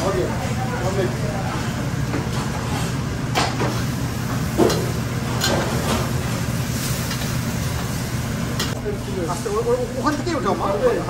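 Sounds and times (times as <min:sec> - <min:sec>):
gas burner and hood noise: 0:00.0 - 0:11.0.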